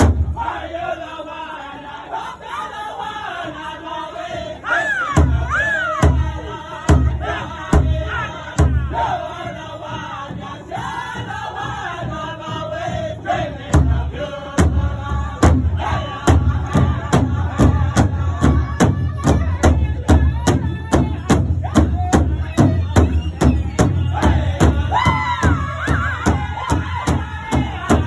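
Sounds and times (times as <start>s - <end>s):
high gliding group singing: 0.0s - 28.0s.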